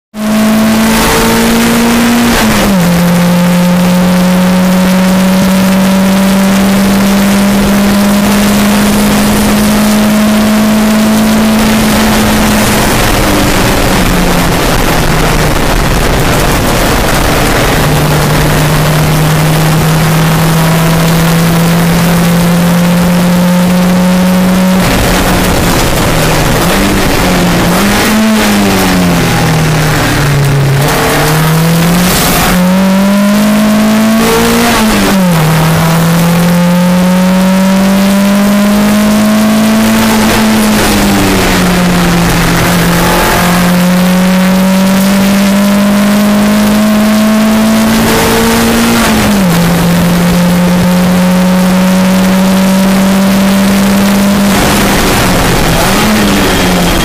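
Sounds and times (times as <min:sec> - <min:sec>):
car engine accelerating hard: 0:00.1 - 0:57.0.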